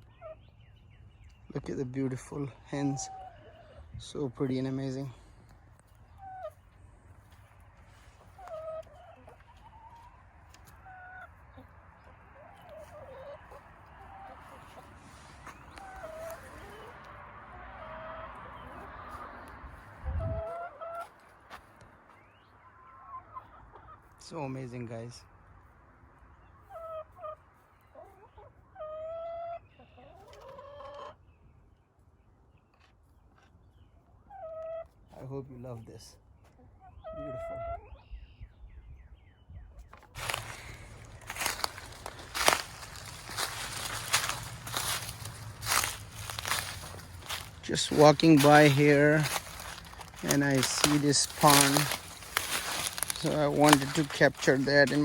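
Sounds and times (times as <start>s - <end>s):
hens clucking: 0.0s - 25.1s, 26.4s - 31.3s, 34.2s - 38.1s, 39.9s - 55.0s.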